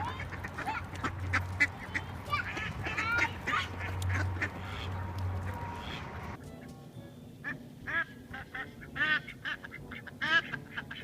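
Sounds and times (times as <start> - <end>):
ducks quacking: 0.0 - 6.7, 7.4 - 11.0.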